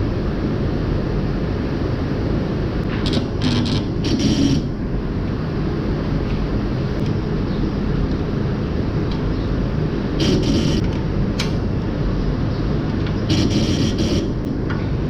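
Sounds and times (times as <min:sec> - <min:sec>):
low machinery drone: 0:00.0 - 0:15.0.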